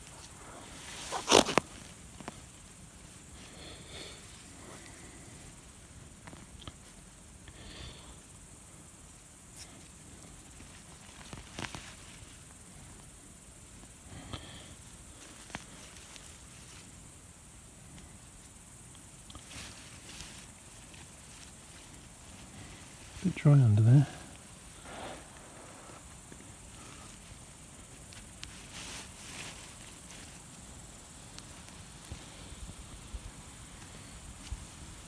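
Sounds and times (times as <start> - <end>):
hands rustling in soil: 0.0 - 8.0, 9.4 - 35.0
steady high hiss: 0.0 - 35.0.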